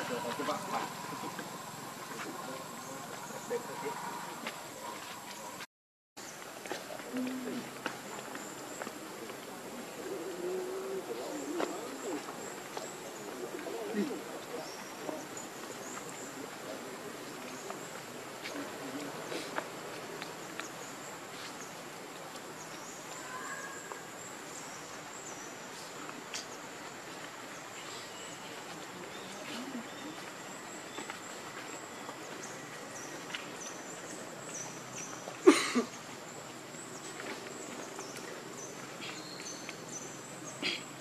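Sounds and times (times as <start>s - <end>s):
insects droning: 0.0s - 5.6s, 6.3s - 41.0s.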